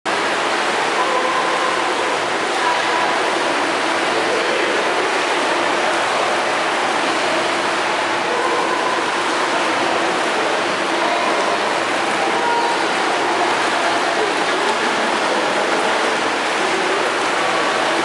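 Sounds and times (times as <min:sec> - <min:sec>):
swimmers splashing water: 0:00.1 - 0:18.0.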